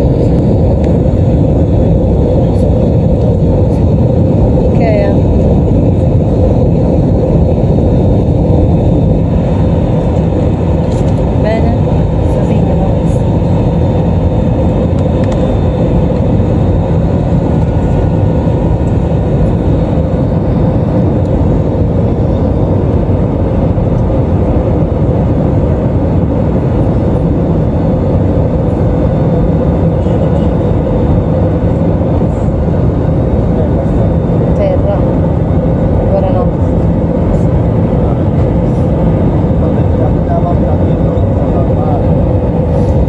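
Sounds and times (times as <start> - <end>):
constant hum: 0.0 - 43.0
jet engines and rushing airflow: 0.0 - 43.0.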